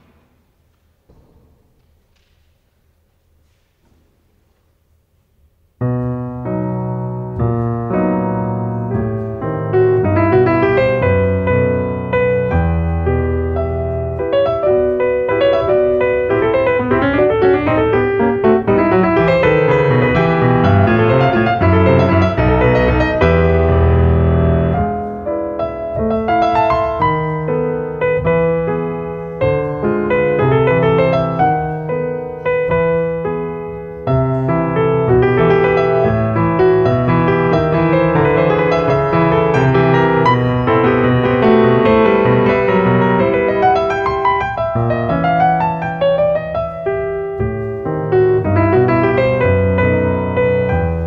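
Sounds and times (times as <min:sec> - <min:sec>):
solo piano playing: 0:05.8 - 0:51.0.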